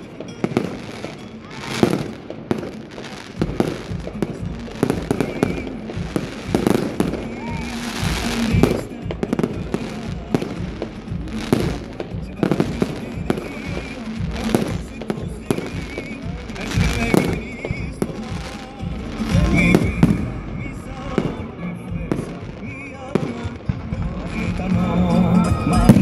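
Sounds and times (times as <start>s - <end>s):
fireworks bangs: 0.0s - 26.0s
music playing: 0.0s - 26.0s.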